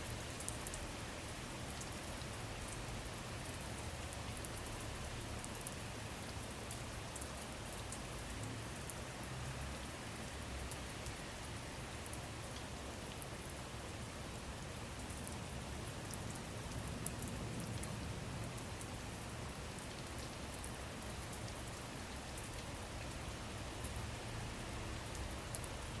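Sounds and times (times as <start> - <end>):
rain drops ticking on a surface: 0.0 - 26.0.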